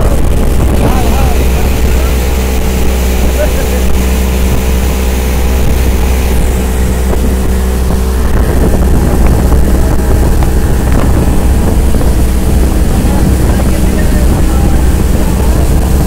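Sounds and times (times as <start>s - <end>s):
motorboat engine running: 0.0s - 16.0s
wind on microphone: 0.0s - 16.0s.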